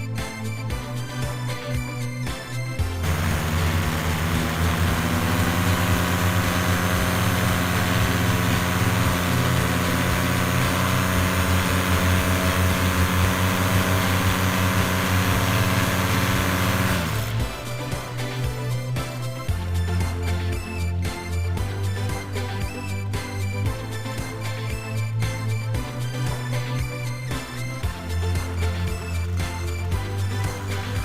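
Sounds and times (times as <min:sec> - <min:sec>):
paramotor engine and propeller: 0:02.8 - 0:31.0.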